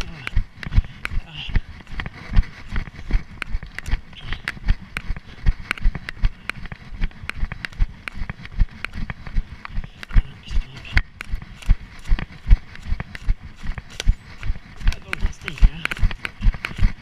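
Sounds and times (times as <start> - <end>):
running footsteps on dry leaves: 0.0 - 17.0.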